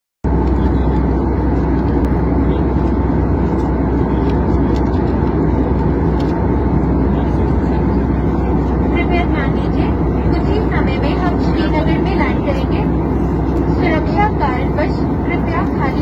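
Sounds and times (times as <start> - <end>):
airliner cabin engine roar: 0.2 - 16.0.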